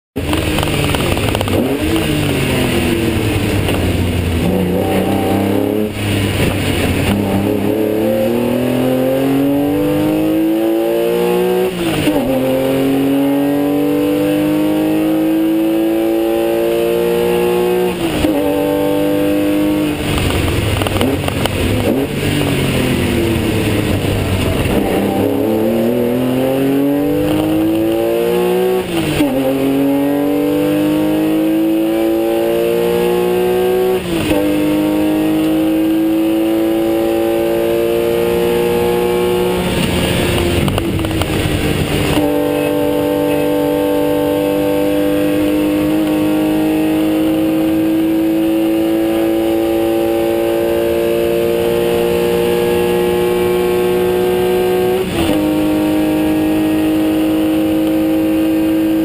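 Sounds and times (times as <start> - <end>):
race car engine accelerating: 0.2 - 59.0.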